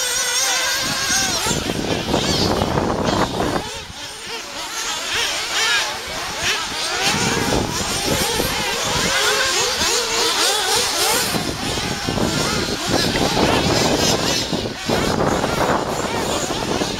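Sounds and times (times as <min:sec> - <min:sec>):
model car engines revving: 0:00.0 - 0:16.9.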